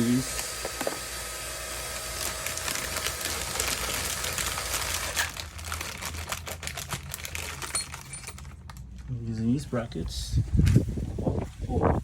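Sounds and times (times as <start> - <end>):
pipe brackets crinkling: 1.8 - 12.0.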